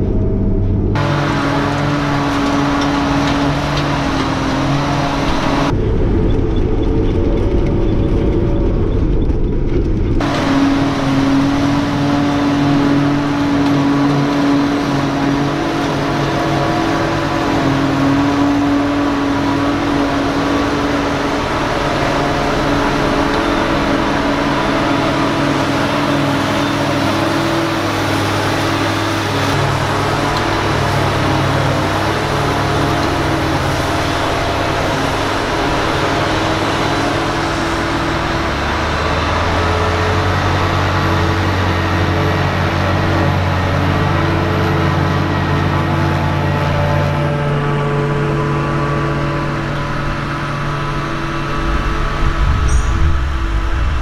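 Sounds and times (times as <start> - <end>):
tractor diesel engine: 0.0 - 54.0
forage harvester chopping grass: 1.0 - 5.7, 10.2 - 49.3.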